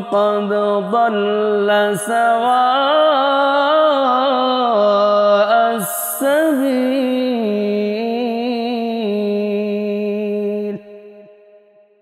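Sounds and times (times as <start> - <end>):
man chanting melodically: 0.0 - 10.9.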